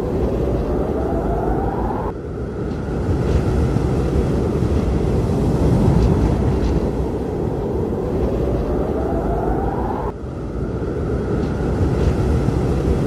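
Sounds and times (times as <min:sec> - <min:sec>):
wind blowing: 0:00.0 - 0:13.0.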